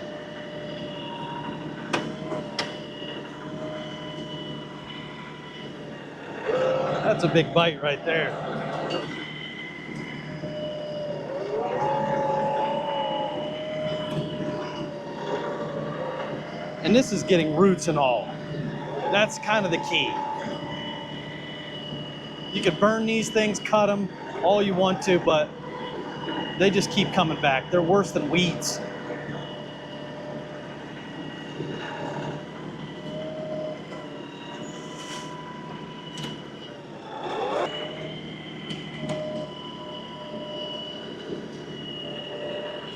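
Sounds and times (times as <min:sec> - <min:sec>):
higher mechanical whine: 0:00.0 - 0:42.9.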